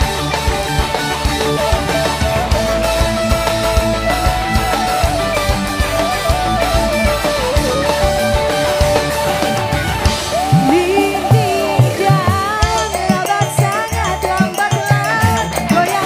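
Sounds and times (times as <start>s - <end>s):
distorted electric guitar: 0.0s - 16.0s
drum kit beat: 0.0s - 16.0s.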